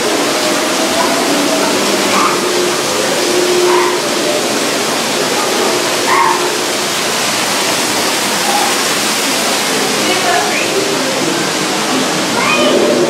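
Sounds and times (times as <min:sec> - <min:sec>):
faint calls: 0:00.0 - 0:11.1
waterfall rushing: 0:00.0 - 0:13.0.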